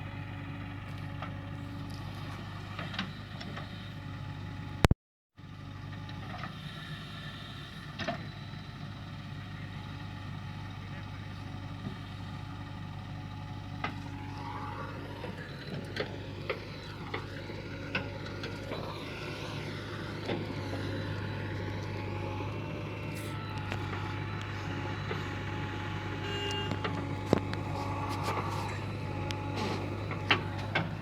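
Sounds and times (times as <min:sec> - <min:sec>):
heavy machine engine running: 0:00.0 - 0:31.0.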